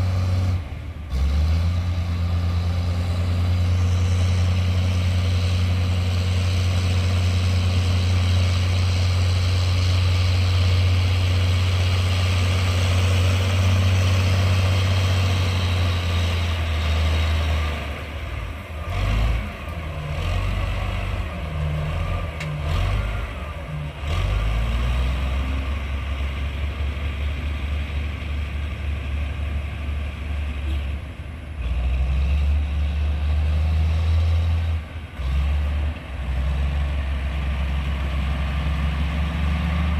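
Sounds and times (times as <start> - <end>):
construction machine diesel engine: 0.0 - 39.9.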